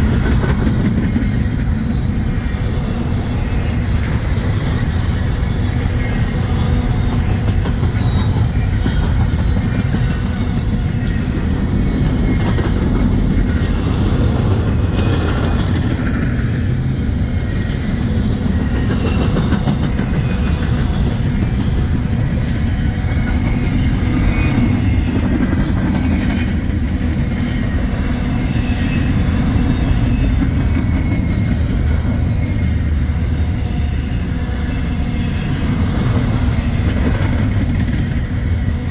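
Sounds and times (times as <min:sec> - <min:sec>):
high wheel squeals: 0:00.0 - 0:38.9
train wheels rumbling on rail: 0:00.0 - 0:38.9.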